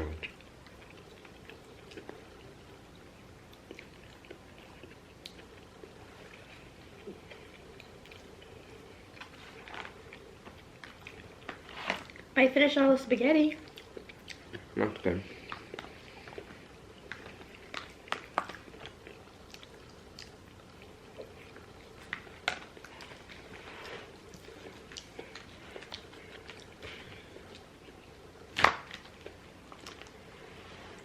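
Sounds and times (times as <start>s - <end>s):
chewing and biting: 0.1s - 12.4s, 13.6s - 30.4s.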